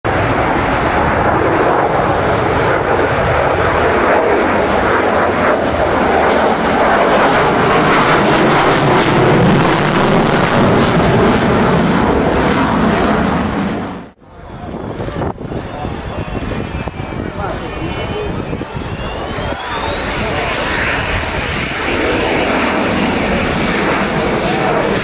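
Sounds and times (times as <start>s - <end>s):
fighter jet engine roar: 0.1s - 25.0s.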